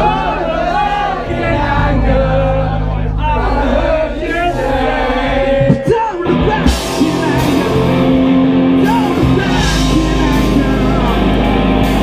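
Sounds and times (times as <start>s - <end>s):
rock music with singing: 1.5s - 12.0s.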